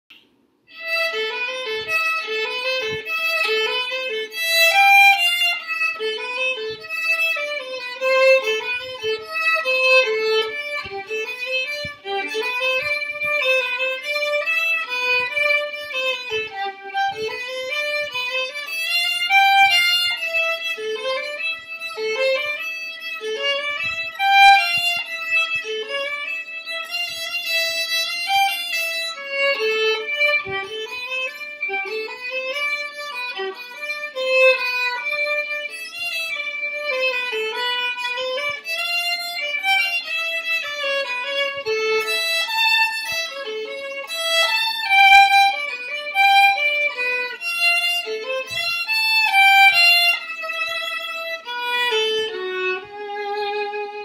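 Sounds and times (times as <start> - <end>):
solo violin melody: 0.1 - 54.0.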